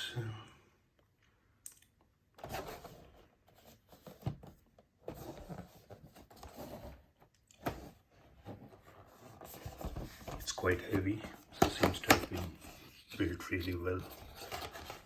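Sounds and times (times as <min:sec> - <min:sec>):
packaging rustling and scraping: 0:02.4 - 0:15.0.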